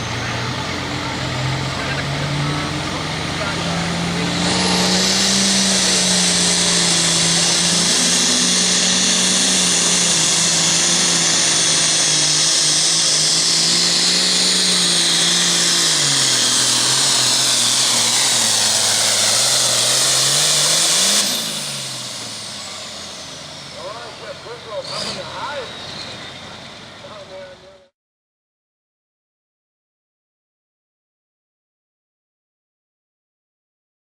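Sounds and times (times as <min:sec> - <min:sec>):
tractor diesel engine at full throttle: 0:00.0 - 0:27.9.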